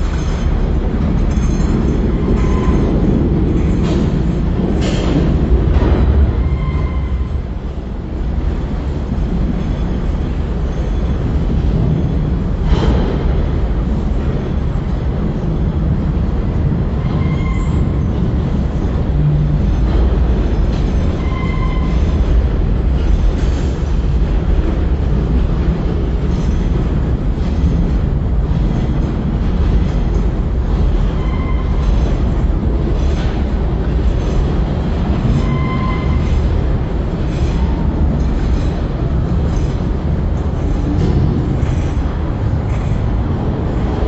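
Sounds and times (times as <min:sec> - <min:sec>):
steel wheels on rail: 0:00.0 - 0:44.0.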